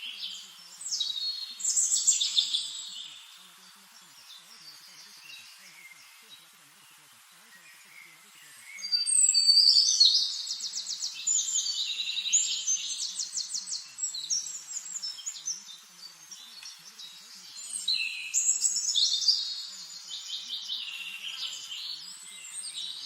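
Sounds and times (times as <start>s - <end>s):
songbirds trilling and chirping: 0.0s - 23.0s.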